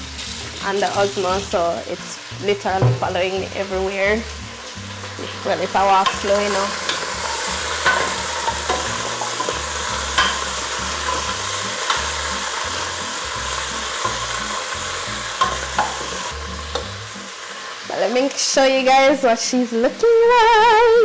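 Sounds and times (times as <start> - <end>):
meat sizzling in hot oil: 0.0 - 19.8.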